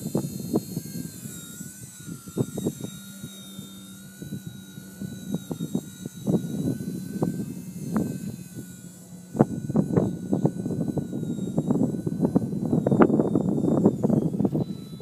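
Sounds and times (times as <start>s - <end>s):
small helicopter motor whine: 0.0s - 15.0s
wind buffeting microphone: 0.0s - 15.0s.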